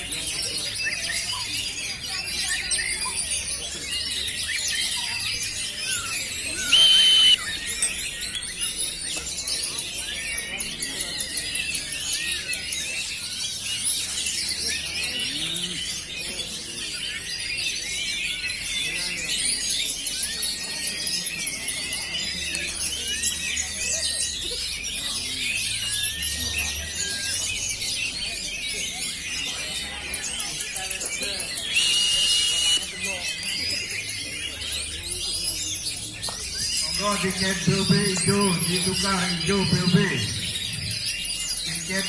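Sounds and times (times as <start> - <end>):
chorus of songbirds: 0.0 - 42.0.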